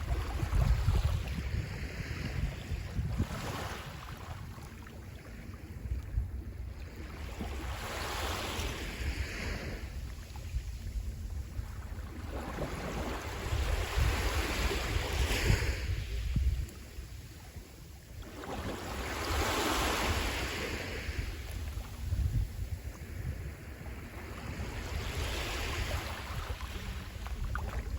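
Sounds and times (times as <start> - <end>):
waves washing onto shore: 0.0 - 27.9
wind on microphone: 0.0 - 27.9.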